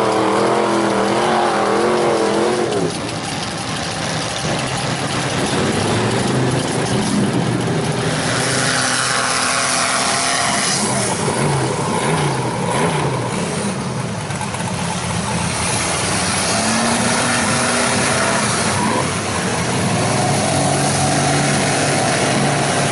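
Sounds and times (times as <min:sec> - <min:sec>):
heavy rush of noise: 0:00.0 - 0:22.9
truck engine revving hard: 0:00.0 - 0:22.9.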